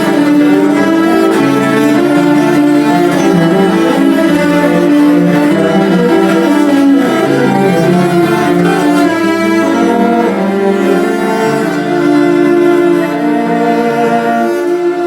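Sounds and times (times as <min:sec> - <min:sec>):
cello ensemble playing: 0:00.0 - 0:15.0.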